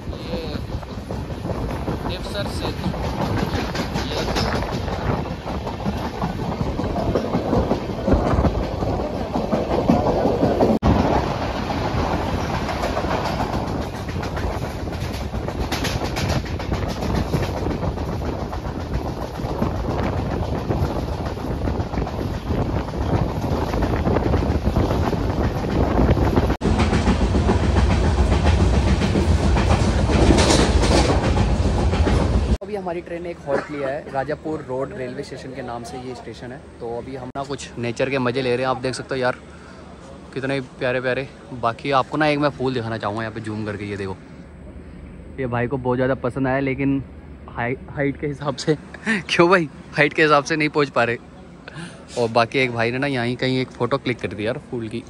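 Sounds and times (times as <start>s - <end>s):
train wheels rumbling over rails: 0.0s - 33.4s, 34.0s - 55.0s
train coach rattling: 0.0s - 44.7s.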